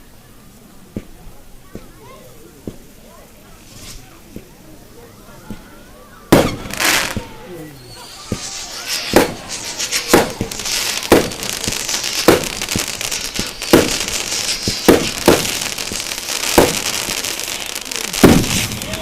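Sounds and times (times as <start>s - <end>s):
fireworks crackle: 0.9s - 19.0s
fireworks bangs: 2.6s - 4.6s, 5.4s - 19.0s.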